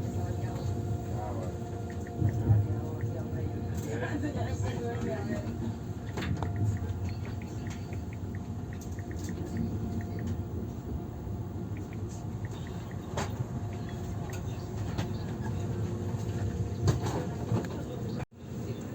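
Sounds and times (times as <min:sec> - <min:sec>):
train rumbling inside carriage: 0:00.0 - 0:18.9.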